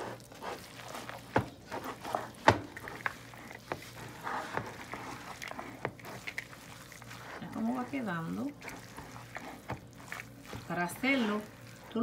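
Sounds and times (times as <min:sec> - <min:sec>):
spatula scraping in a bowl: 0:00.0 - 0:12.0.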